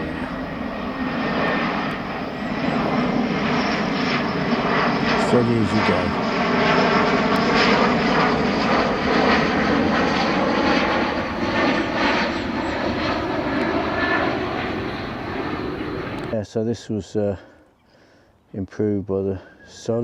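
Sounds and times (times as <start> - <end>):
jet airliner passing overhead: 0.0 - 16.4.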